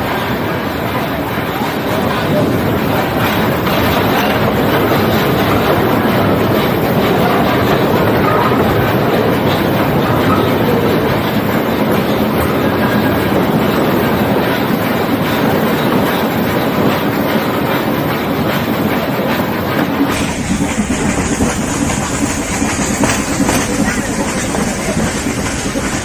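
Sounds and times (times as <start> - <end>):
train carriage rumble and rattle: 0.0 - 26.0
wheels clacking over rail joints: 0.0 - 26.0.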